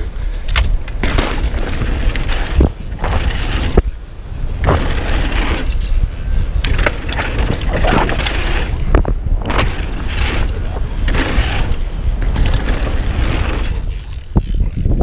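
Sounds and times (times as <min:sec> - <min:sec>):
bike chain and frame clattering: 0:00.0 - 0:15.0
tyre noise on dirt: 0:00.0 - 0:15.0
wind on microphone: 0:00.0 - 0:15.0.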